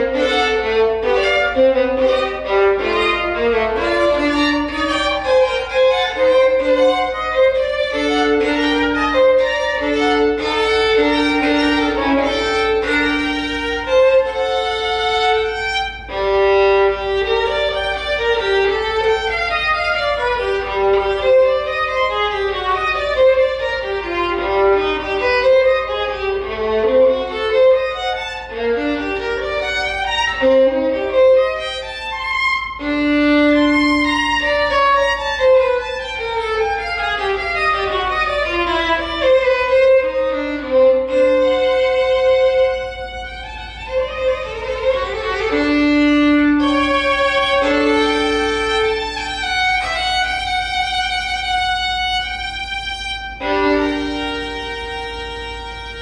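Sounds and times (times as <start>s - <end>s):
solo violin fast passage: 0.0s - 56.0s.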